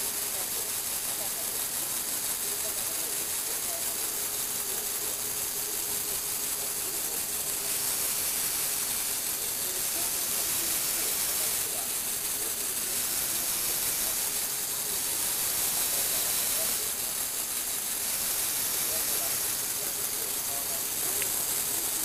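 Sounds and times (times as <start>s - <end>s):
toy gear mechanism whirring: 0.0s - 22.0s.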